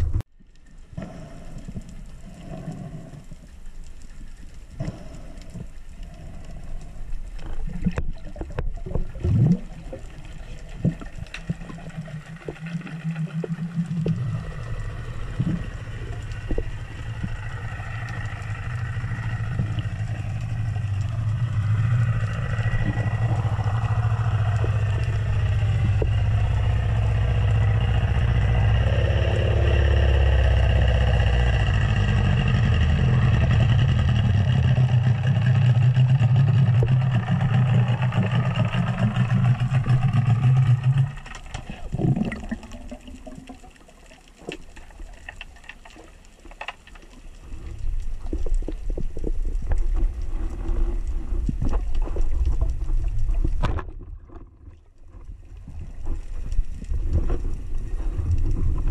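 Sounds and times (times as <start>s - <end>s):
boat engine hum underwater: 0.0s - 58.9s.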